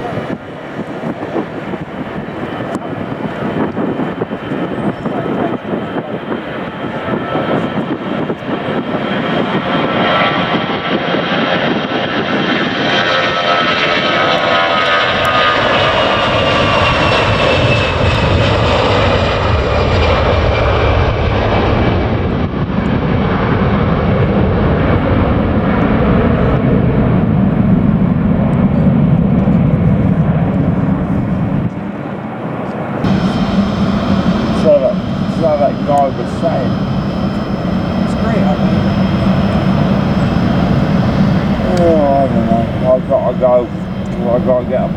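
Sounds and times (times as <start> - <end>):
jet engines at take-off: 0.0 - 44.9.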